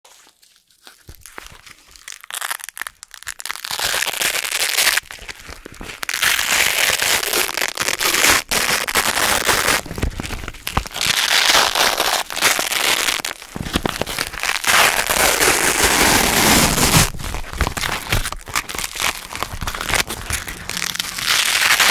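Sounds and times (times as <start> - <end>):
velcro ripping apart: 0.1 - 21.9.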